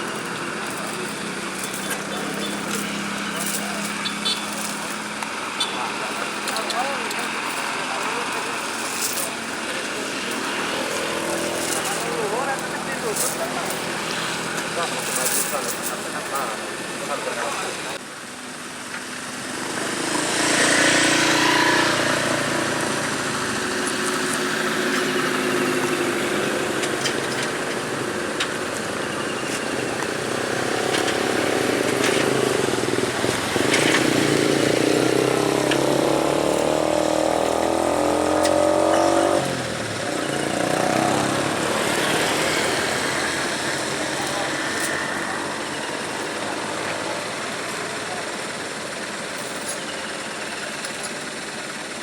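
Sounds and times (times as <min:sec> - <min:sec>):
vehicle engine revving: 0:00.0 - 0:15.0, 0:19.4 - 0:48.5
faint voices: 0:00.0 - 0:18.1, 0:21.8 - 0:51.4.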